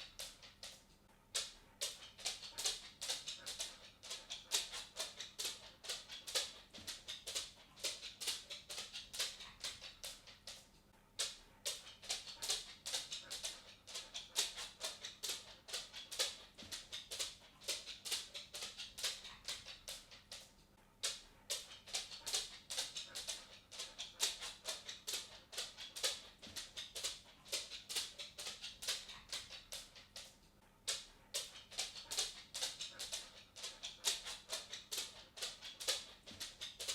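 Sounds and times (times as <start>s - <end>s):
cat footsteps ticking: 0.0s - 36.9s.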